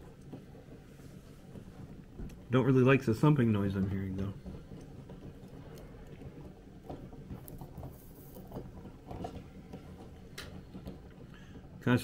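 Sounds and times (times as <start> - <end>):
stove low rumble: 0.0 - 12.0.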